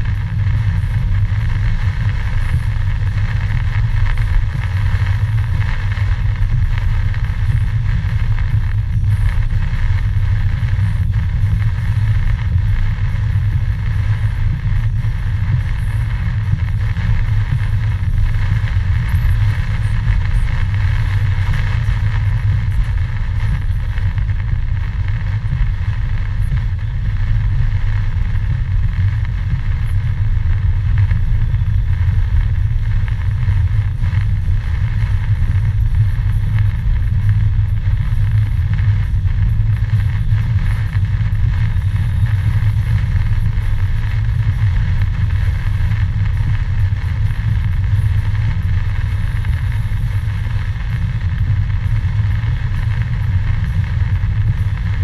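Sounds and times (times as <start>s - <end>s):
engine and tyre rumble: 0.0s - 55.0s
rain hiss on wet road: 0.0s - 55.0s.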